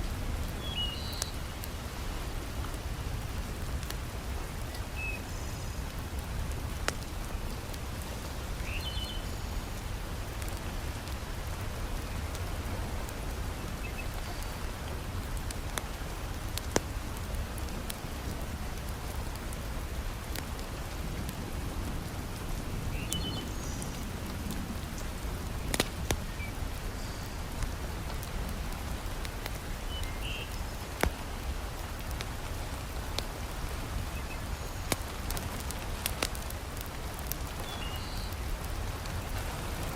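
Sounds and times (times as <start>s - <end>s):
heavy rain: 0.0s - 39.9s
wood fire crackling: 0.0s - 39.9s.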